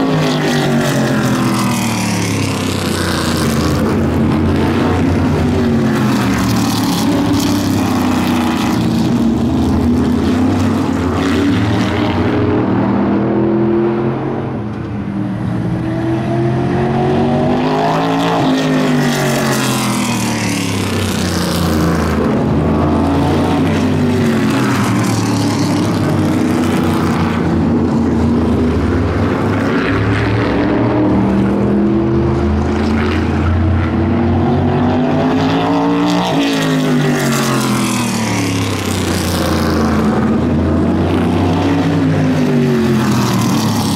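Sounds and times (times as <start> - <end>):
race car engines passing: 0.0 - 43.9.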